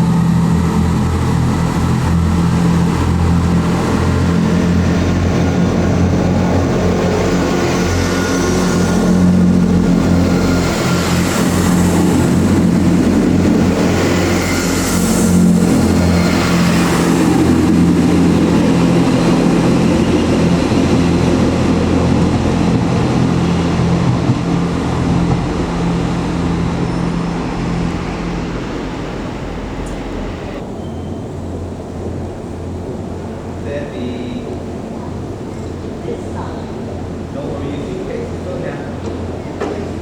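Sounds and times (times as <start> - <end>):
train engine drone: 0.0 - 40.0
train ride rumble: 0.0 - 40.0.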